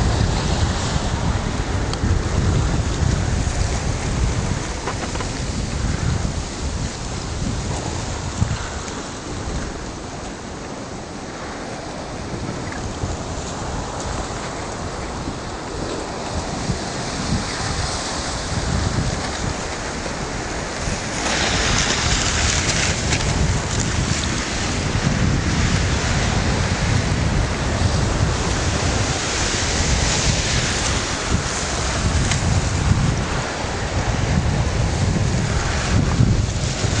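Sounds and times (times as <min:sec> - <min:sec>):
river ice grinding and rustling: 0:00.0 - 0:37.0
wind buffeting microphone: 0:00.0 - 0:37.0.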